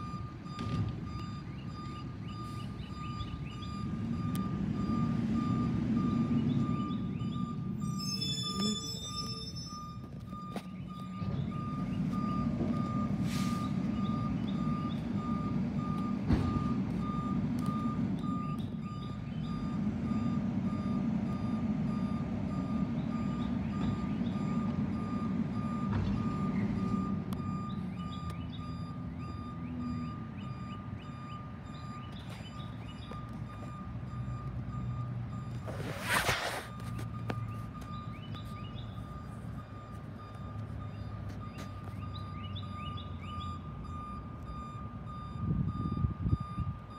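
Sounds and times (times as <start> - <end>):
reversing alarm beeping: 0.0 - 46.9.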